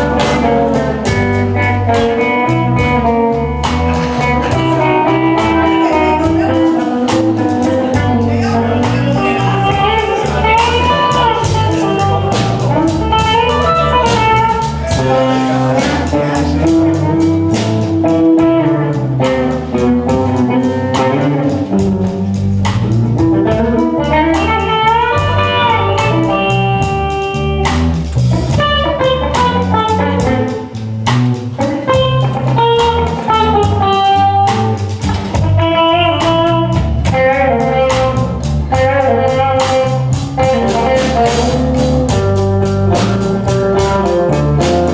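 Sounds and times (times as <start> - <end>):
bass guitar: 0.0 - 44.9
drums: 0.0 - 44.9
guitar lead with bending notes: 0.0 - 44.9.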